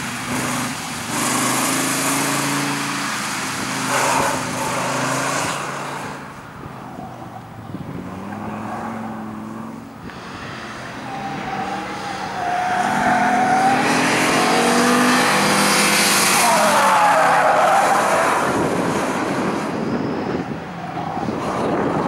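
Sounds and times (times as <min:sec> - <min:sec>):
car engine revving: 0:00.0 - 0:06.4, 0:07.2 - 0:22.0
tyres skidding: 0:00.0 - 0:22.0.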